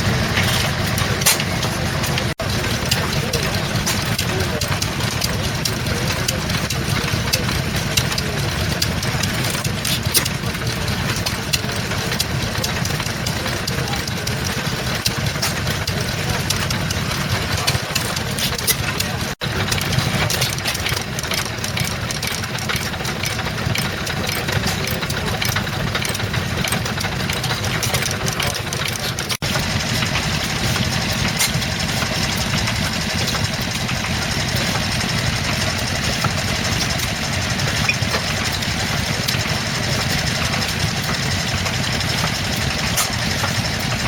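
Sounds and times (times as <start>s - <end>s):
stationary engines running: 0.0s - 44.0s.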